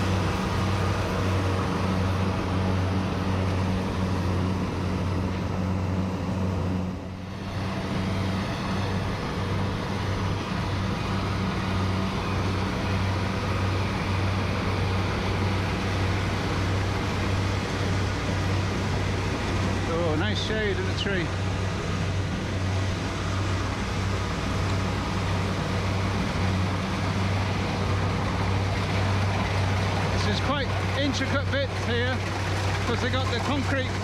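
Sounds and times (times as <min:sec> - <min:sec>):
combine harvester engine droning: 0:00.0 - 0:34.0.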